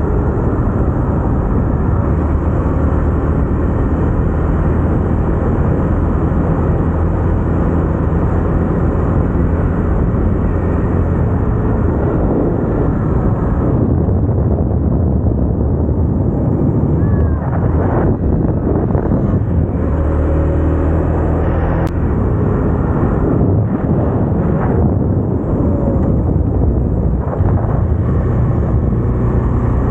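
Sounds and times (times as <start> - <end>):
motorcycle engine running: 0.0 - 29.9
road noise: 0.0 - 29.9
wind: 0.0 - 29.9.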